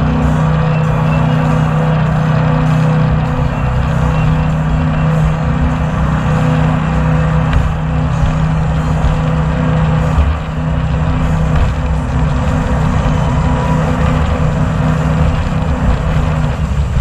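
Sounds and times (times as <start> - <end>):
jet boat engine droning: 0.0 - 17.0.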